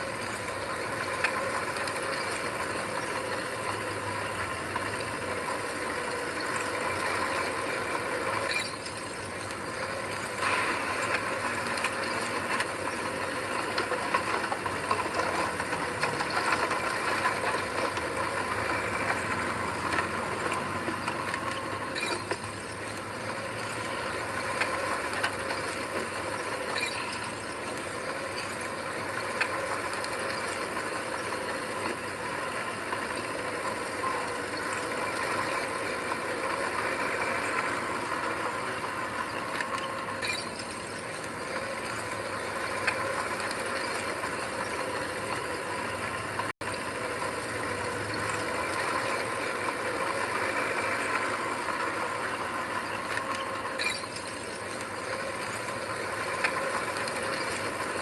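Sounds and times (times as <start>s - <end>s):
heavy machine diesel engine: 0.0s - 58.0s.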